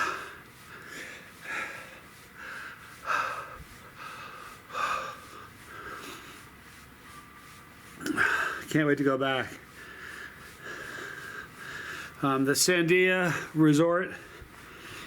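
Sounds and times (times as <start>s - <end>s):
man breathing hard: 0.0s - 6.9s, 8.0s - 8.7s, 9.4s - 12.2s, 13.2s - 15.0s.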